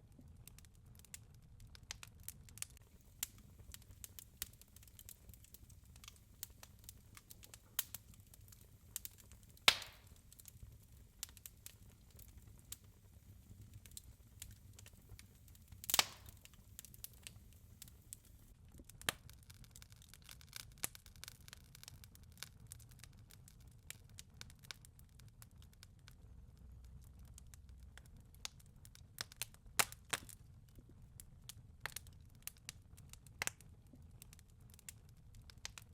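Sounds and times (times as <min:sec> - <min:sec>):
wood fire crackling: 0:00.0 - 0:35.9
fire pops: 0:00.5 - 0:35.9.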